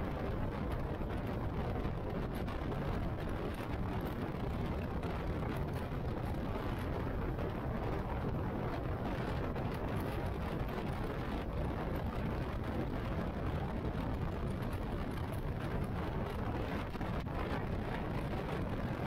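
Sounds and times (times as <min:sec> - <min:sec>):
road noise: 0:00.0 - 0:19.0
wind rush: 0:00.0 - 0:19.0.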